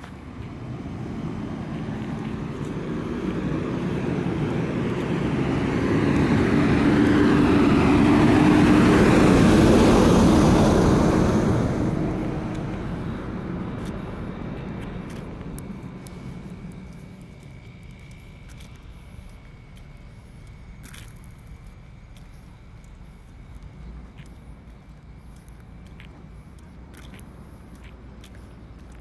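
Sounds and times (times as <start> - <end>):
fire engine driving past: 0.0 - 29.0.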